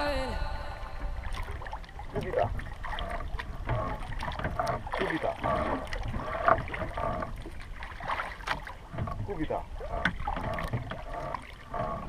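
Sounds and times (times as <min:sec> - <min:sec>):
water sloshing around canoe: 0:01.0 - 0:12.0.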